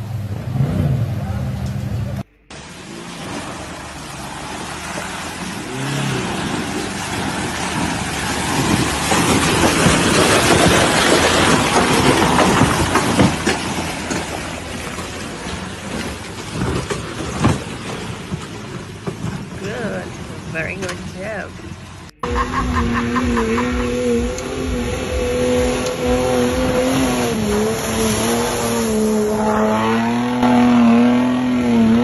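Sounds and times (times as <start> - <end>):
truck engine revving in mud: 0.0 - 32.0.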